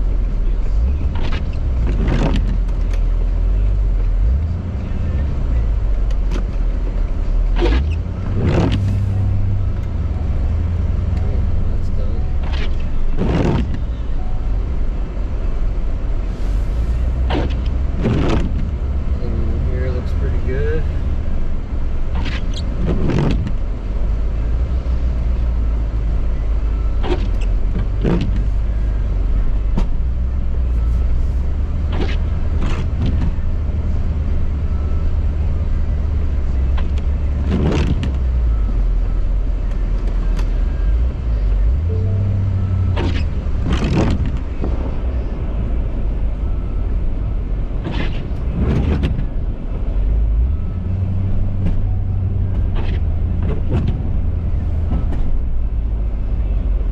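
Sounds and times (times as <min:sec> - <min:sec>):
diesel engine rumbling under load: 0:00.0 - 0:56.9.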